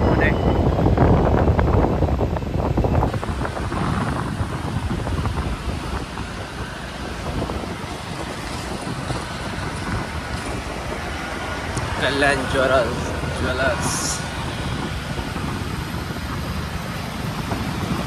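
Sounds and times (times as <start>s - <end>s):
motorbike road noise: 0.0s - 18.0s
wind rushing over microphone: 0.0s - 18.0s.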